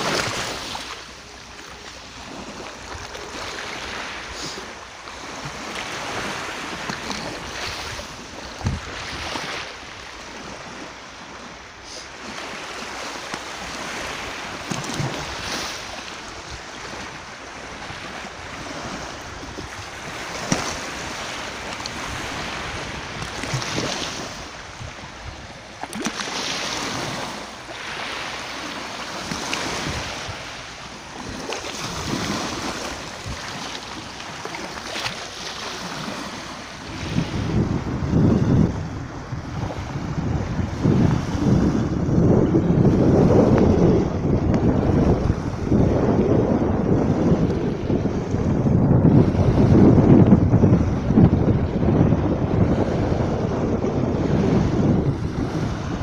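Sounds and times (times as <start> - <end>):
waves washing over pebbles: 0.0 - 11.3, 11.9 - 48.4.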